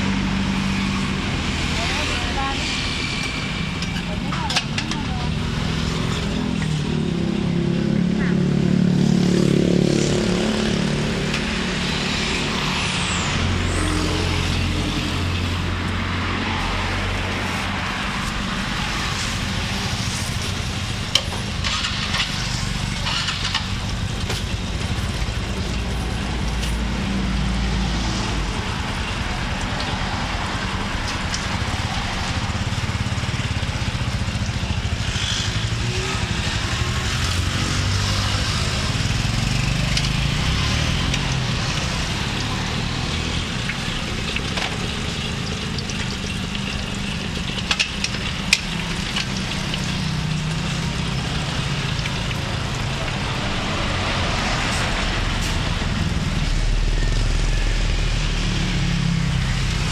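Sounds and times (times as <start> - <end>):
oil sizzling in a wok: 9.3 - 59.9.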